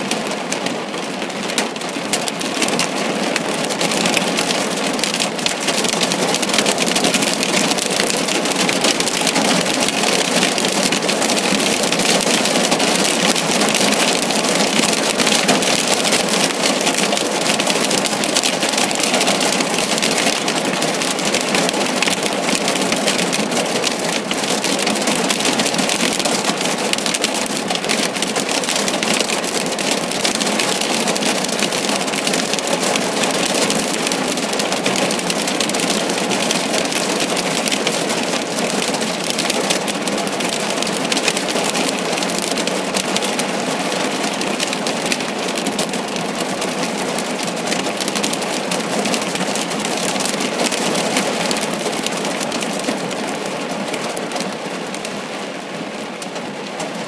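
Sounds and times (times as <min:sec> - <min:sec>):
hail pelting down: 0:00.0 - 0:55.2
heavy rain downpour: 0:00.0 - 0:57.0.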